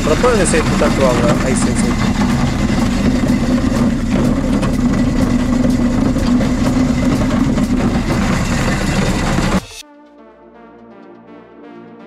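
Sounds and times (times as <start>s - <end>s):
ice crusher motor hum: 0.0s - 9.8s.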